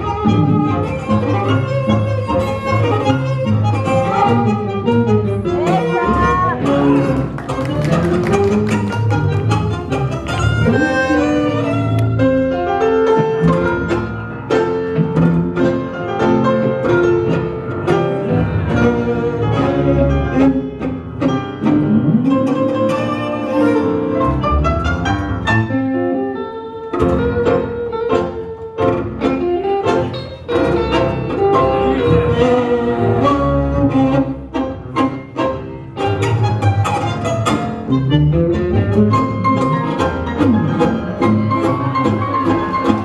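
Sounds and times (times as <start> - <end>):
live tango music: 0.0 - 43.0.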